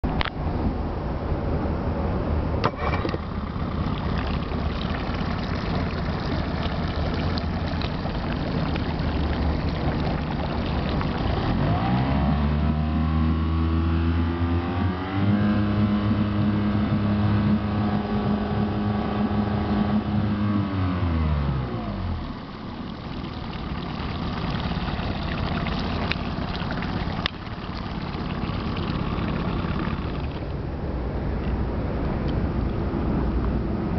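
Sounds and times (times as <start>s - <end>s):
outboard motor idling and revving: 2.7s - 30.6s.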